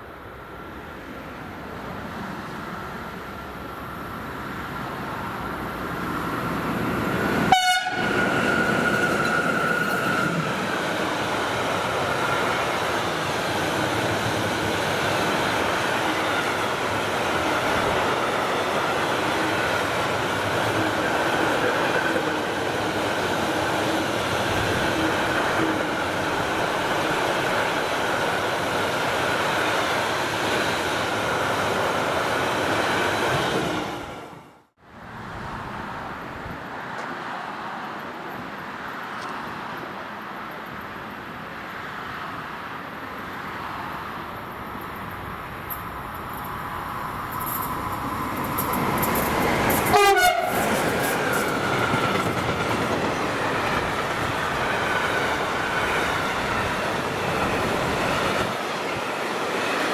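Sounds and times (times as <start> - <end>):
train passing on rails: 0.0 - 59.9.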